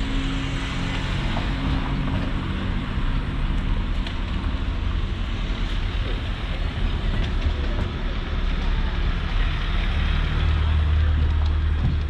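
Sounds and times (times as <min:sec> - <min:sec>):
low engine rumble: 0:00.0 - 0:12.0
outdoor background noise: 0:00.0 - 0:12.0.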